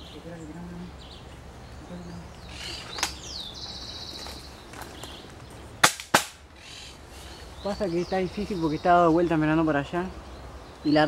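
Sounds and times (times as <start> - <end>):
birds chirping and trilling: 0.0 - 5.8, 6.4 - 11.0.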